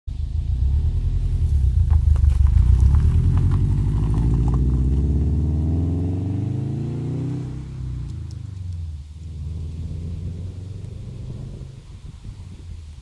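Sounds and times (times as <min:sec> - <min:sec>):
car exhaust rumble: 0:00.1 - 0:13.0.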